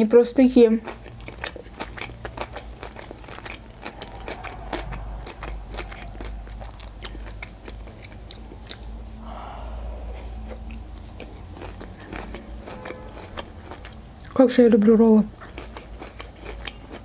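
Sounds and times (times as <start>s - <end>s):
person chewing with wet smacks: 0.0s - 9.2s, 10.5s - 17.0s.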